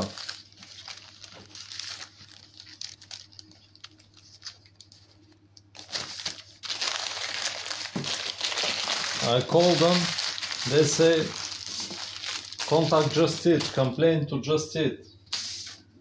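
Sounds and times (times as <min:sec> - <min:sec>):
paper wrapper rustling and crinkling: 0:00.0 - 0:14.0.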